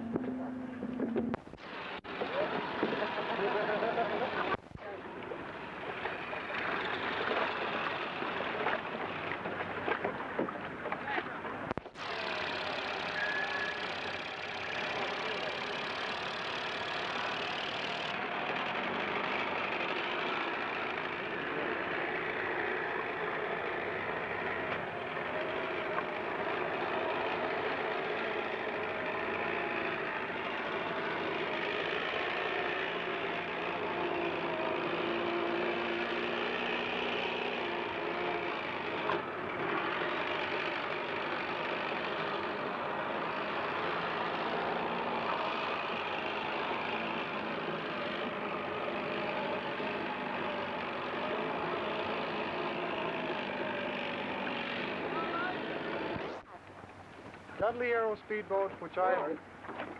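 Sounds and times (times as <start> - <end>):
engine running: 0.0 - 59.9
faint shifting tones: 0.0 - 59.9.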